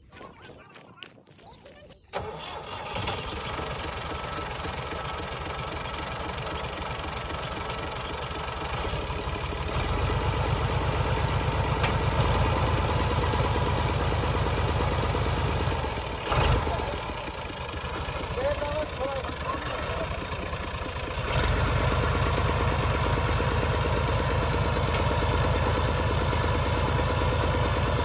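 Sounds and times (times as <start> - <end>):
heavy machinery engine running: 2.1 - 28.0.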